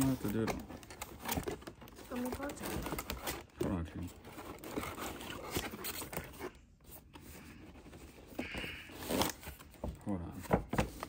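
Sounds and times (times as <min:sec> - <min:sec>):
packaging scraping and rubbing: 0:00.0 - 0:09.6.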